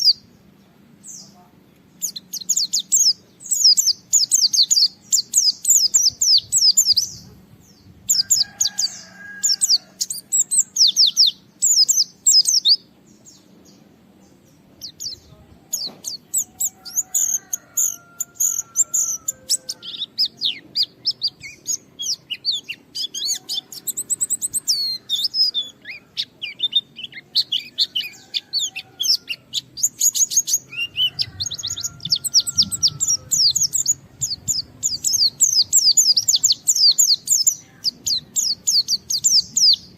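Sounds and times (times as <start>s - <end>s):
bird chattering chirps: 2.0s - 7.4s, 8.0s - 13.5s, 14.6s - 39.9s.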